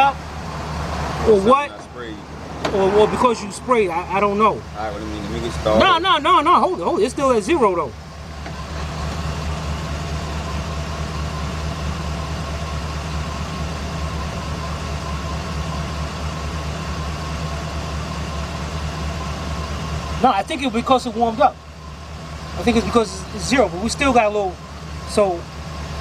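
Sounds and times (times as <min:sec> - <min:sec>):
van engine idling rough: 0:00.0 - 0:26.0.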